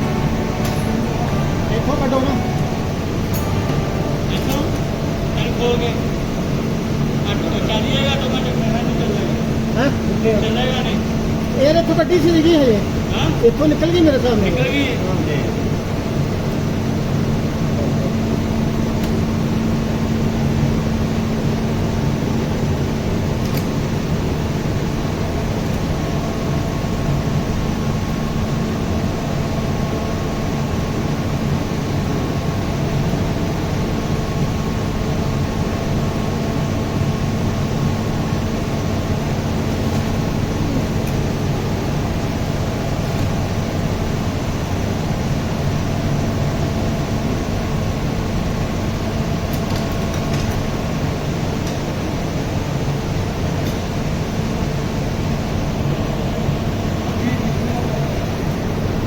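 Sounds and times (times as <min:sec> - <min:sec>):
machinery humming: 0:00.0 - 0:59.0.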